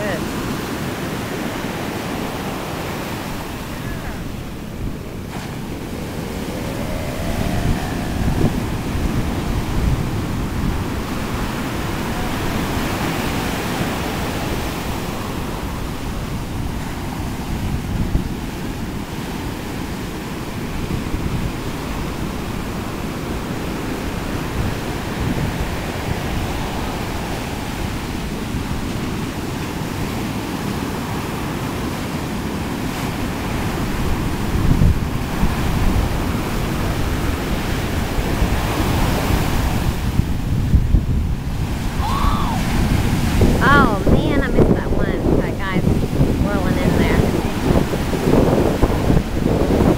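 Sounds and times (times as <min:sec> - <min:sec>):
ocean surf breaking: 0:00.0 - 0:49.9
wind buffeting microphone: 0:00.0 - 0:49.9.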